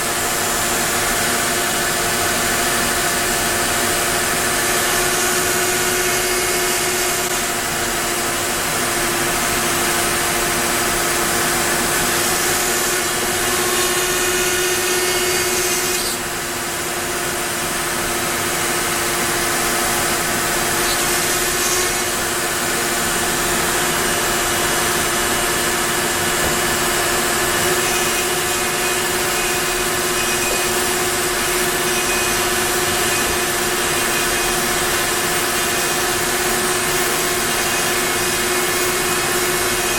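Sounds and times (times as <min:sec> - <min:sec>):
router bit cutting wood: 0:00.0 - 0:39.9
router spindle whine: 0:00.0 - 0:39.9.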